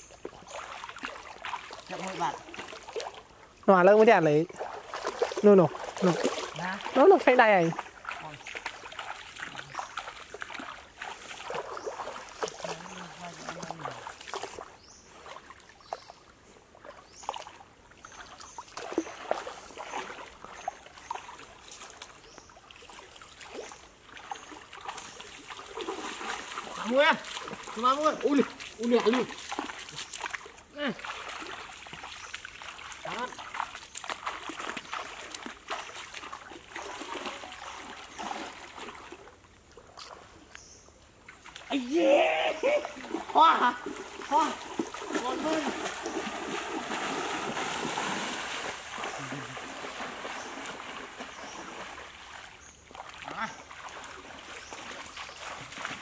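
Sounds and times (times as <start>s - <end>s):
water sloshing and trickling: 0.0s - 56.0s.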